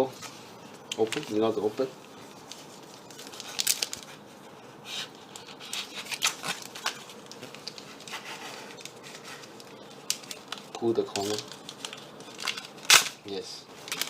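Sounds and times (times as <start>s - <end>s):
wrapper crinkling being torn: 0.9s - 1.5s, 2.4s - 4.2s, 5.0s - 14.0s.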